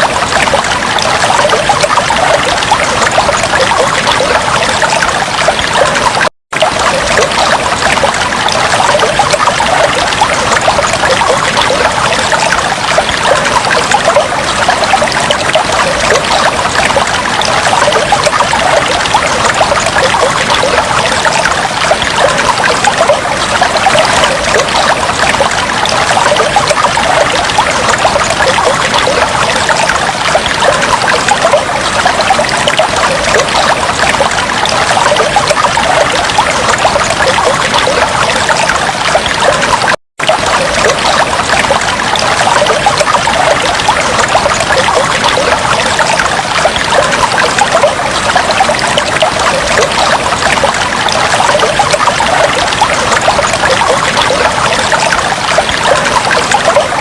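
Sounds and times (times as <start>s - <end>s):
aquarium water trickling: 0.0s - 57.0s.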